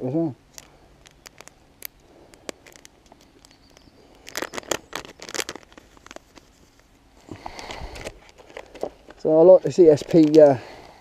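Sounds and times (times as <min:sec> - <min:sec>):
plastic packet crinkling: 0:00.5 - 0:10.9.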